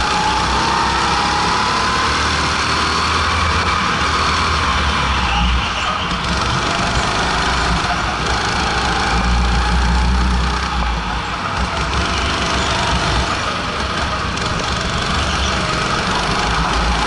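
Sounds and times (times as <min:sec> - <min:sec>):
go-kart engine running hard: 0:00.0 - 0:17.0.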